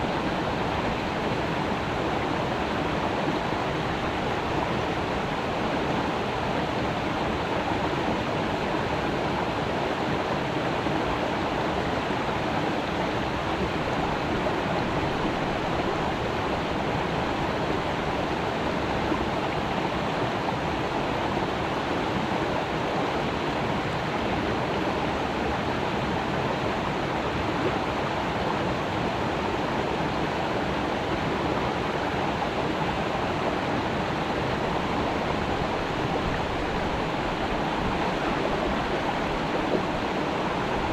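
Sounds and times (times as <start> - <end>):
creek water rushing over rocks: 0.0 - 40.9.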